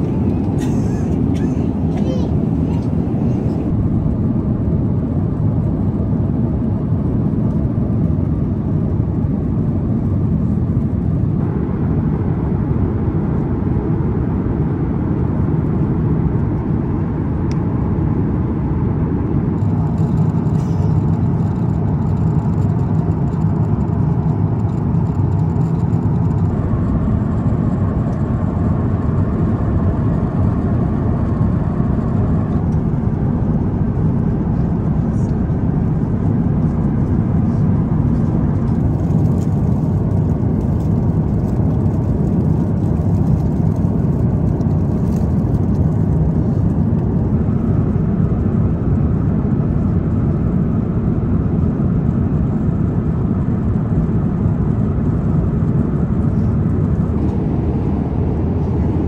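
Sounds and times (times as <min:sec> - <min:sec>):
airplane cabin noise in flight: 0:00.0 - 0:59.0.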